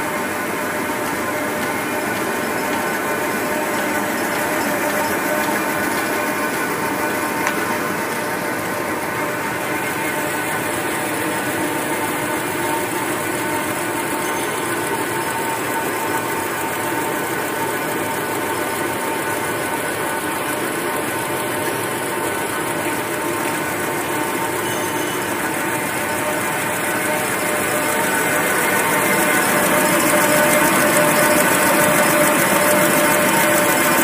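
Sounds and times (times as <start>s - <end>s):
tissue paper machine running: 0.0s - 34.0s.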